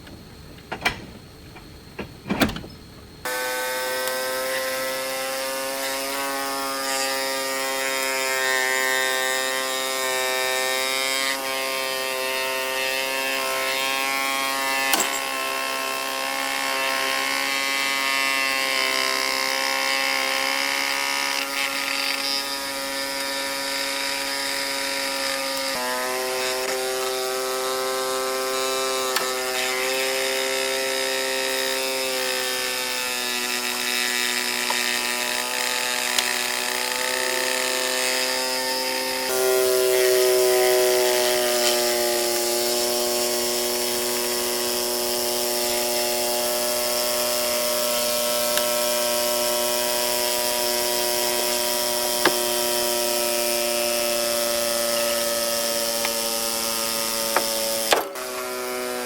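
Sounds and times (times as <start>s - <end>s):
power tool motor whining: 0.0s - 59.0s.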